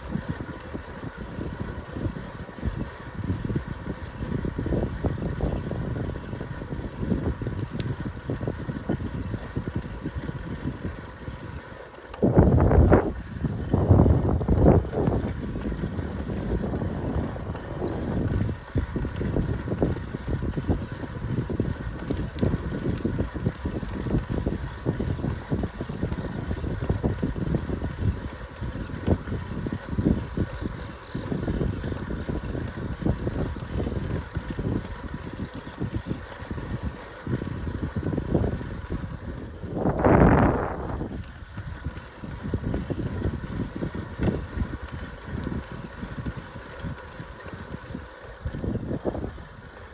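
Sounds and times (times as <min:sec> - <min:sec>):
bicycle tyres rolling on trail: 0:00.0 - 0:49.9
wind buffeting microphone: 0:00.0 - 0:49.9.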